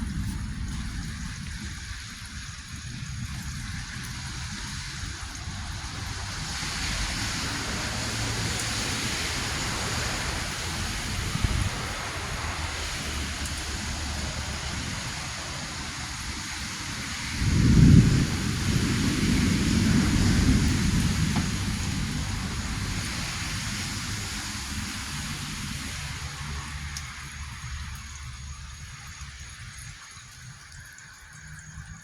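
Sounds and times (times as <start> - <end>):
rain hissing: 0.0 - 32.0
wind: 0.0 - 32.0.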